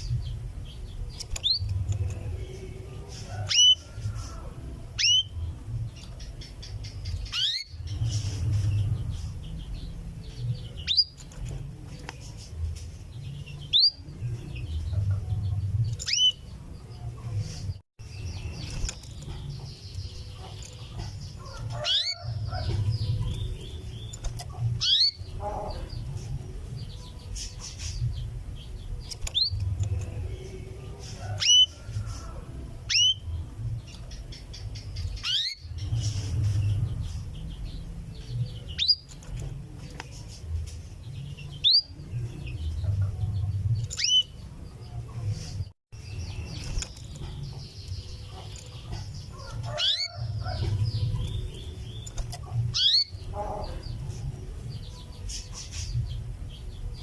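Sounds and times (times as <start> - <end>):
canary chirping: 0.0 - 57.0.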